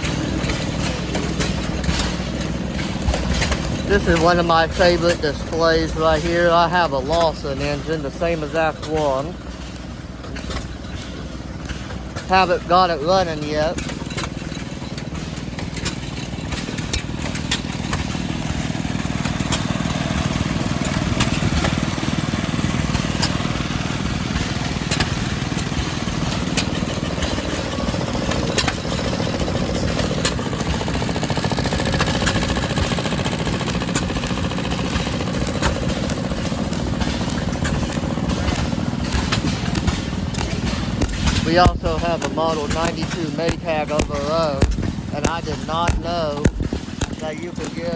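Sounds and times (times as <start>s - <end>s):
engine pops and clicks: 0.0s - 47.9s
stationary engines rumbling: 0.0s - 47.9s.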